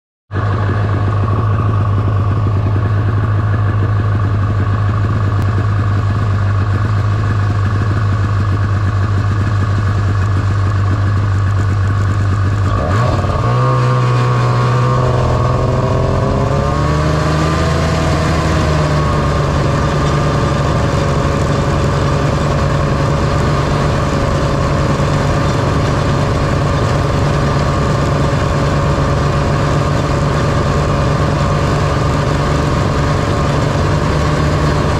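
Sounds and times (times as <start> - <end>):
snowmobile two-stroke engine running: 0.3 - 34.9.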